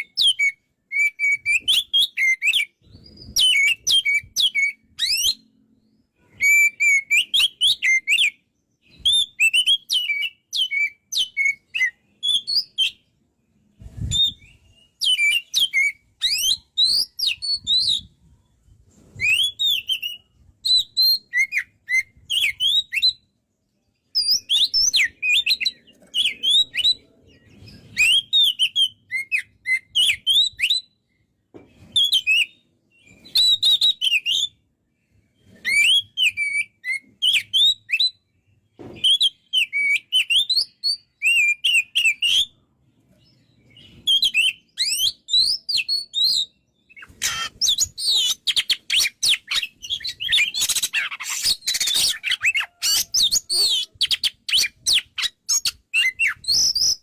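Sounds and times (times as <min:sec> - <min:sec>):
magpie-robin singing: 0:00.0 - 0:13.1, 0:14.1 - 0:18.2, 0:19.2 - 0:23.2, 0:24.0 - 0:31.0, 0:32.0 - 0:34.6, 0:35.4 - 0:38.2, 0:39.0 - 0:42.6, 0:43.2 - 0:57.0.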